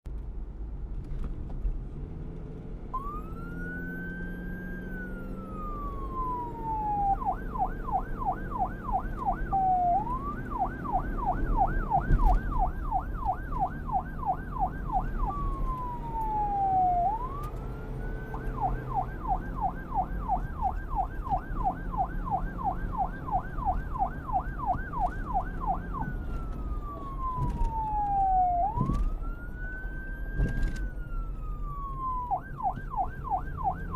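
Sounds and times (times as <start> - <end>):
police siren wailing and yelping: 2.9 - 33.9.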